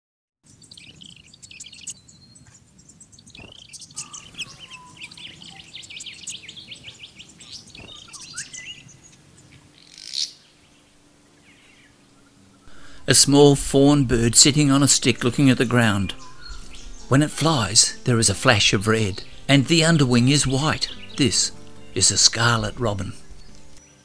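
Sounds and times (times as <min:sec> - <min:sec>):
small birds chirping: 0:00.4 - 0:24.0.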